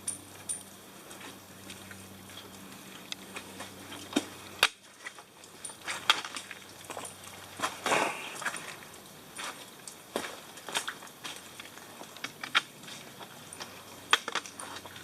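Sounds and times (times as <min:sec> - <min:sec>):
footsteps on wet rocks: 0:01.0 - 0:15.0.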